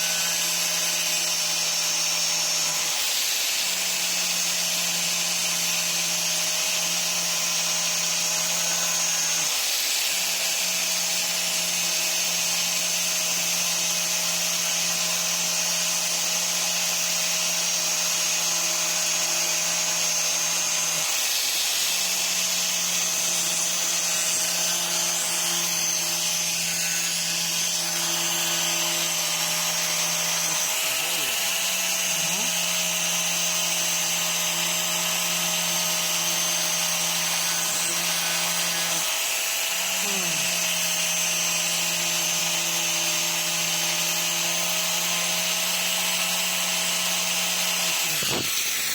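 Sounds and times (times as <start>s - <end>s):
core drill motor humming and whining: 0.0s - 48.9s
drill bit grinding hiss: 0.0s - 48.9s.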